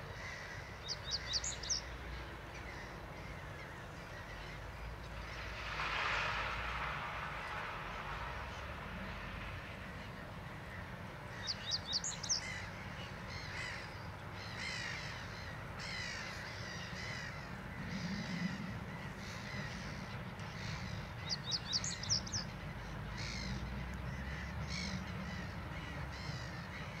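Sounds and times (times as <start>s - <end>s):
other birds calling: 0.0s - 5.4s, 9.6s - 27.0s
bird song of high notes: 0.3s - 5.6s, 7.5s - 27.0s.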